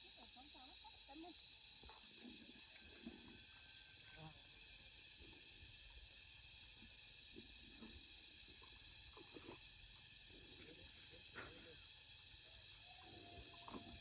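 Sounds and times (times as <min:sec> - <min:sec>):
insects calling: 0:00.0 - 0:14.0.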